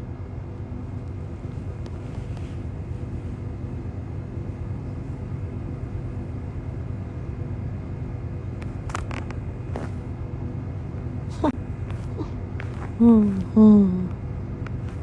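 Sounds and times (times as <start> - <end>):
steady low rumble and hum: 0.0 - 15.0.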